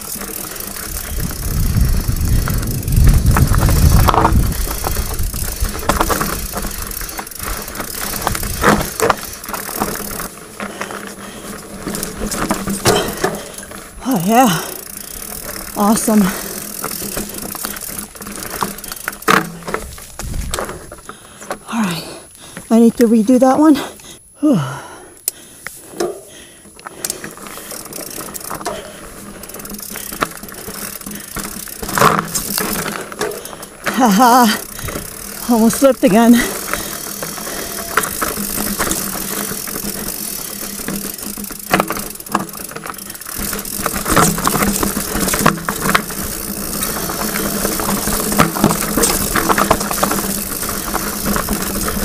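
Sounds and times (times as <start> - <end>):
bike freewheel ratchet clicking: 0.0 - 21.6, 25.2 - 52.0
bike rattling and knocking on rocks: 0.0 - 23.8, 25.9 - 52.0.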